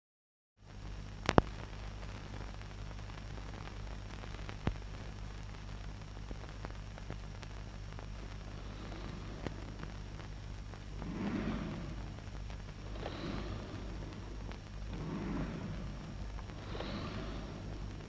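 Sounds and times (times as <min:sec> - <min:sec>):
film soundtrack hiss and hum: 0:00.6 - 0:18.0.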